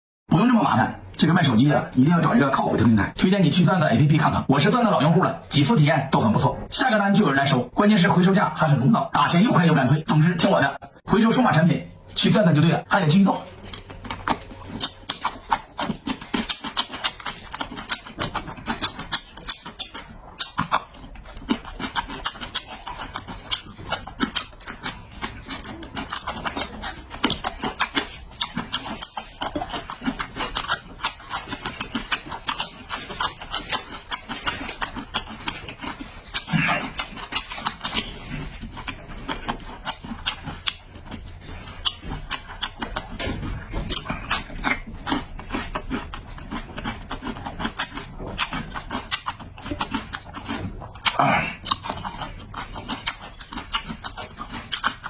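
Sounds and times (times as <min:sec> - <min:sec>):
person chewing and mouth-smacking: 0:01.0 - 0:55.0.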